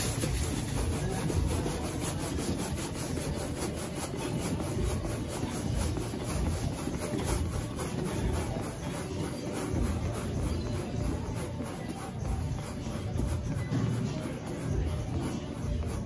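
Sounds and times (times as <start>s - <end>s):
rubbing and swishing strokes: 0.0s - 16.0s.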